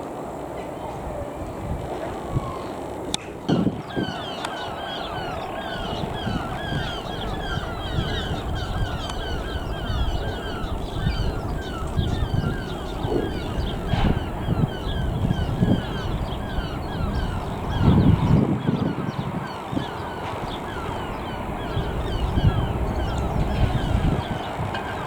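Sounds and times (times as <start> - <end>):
birds calling: 2.3 - 25.0
low rumbling noise: 4.7 - 25.0.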